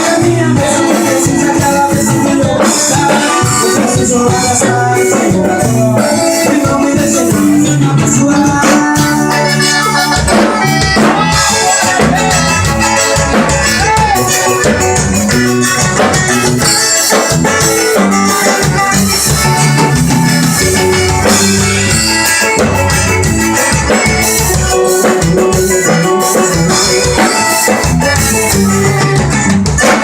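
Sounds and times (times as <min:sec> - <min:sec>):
band playing loud live music: 0:00.0 - 0:30.0.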